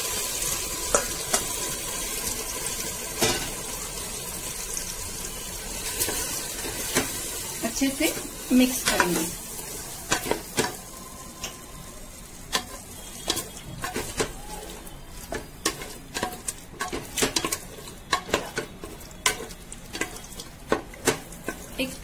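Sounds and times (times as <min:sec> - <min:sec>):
faint oil sizzle: 0:00.0 - 0:22.0.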